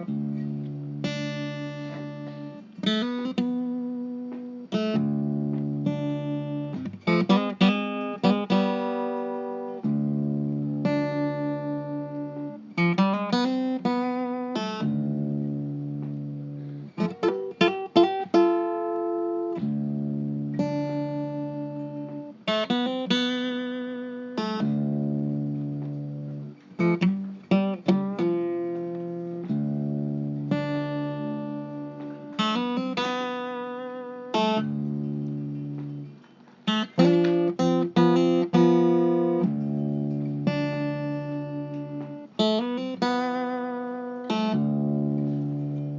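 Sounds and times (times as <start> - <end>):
guitar plucking and chords: 0.0 - 45.9.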